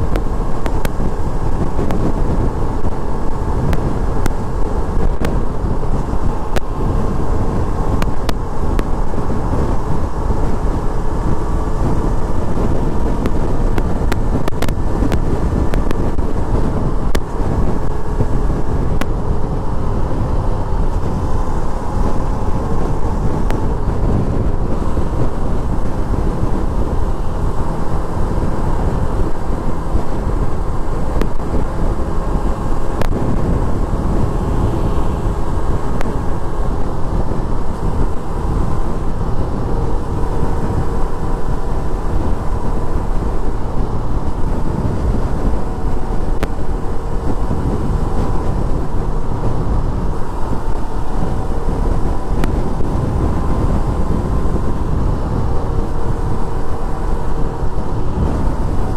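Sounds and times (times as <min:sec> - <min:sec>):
motorcycle engine cruising: 0:00.0 - 0:58.9
wind noise on microphone: 0:00.0 - 0:58.9.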